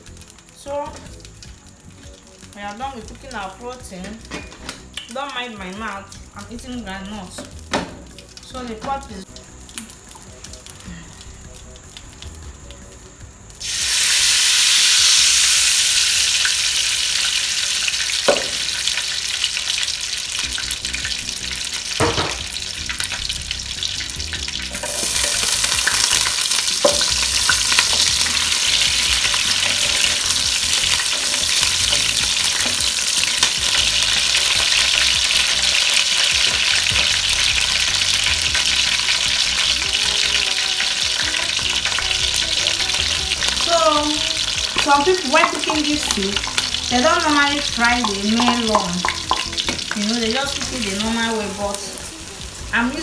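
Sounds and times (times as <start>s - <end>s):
oil sizzling in a pot: 0.0s - 53.0s.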